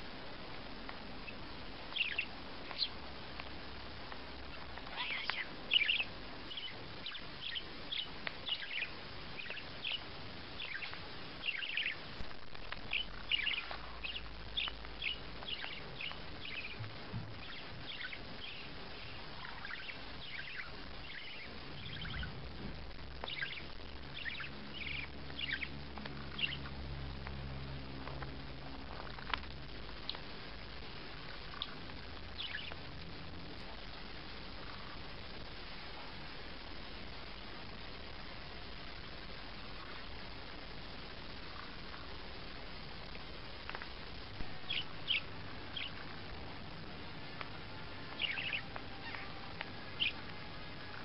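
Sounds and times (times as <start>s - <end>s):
small bird chirping: 1.2s - 35.5s, 44.2s - 51.0s.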